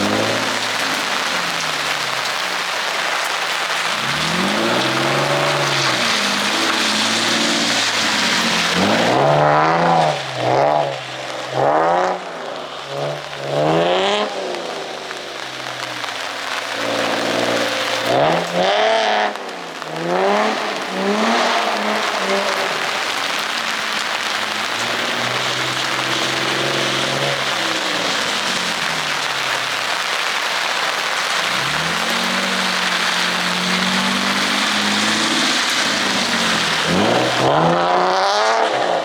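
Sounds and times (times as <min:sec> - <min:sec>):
car engine revving: 0:00.0 - 0:39.0
steady rush of noise: 0:00.0 - 0:39.0.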